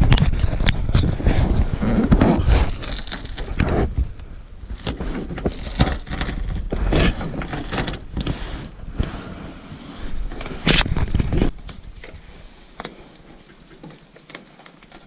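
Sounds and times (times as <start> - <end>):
wind rumble on microphone: 0.0 - 12.4.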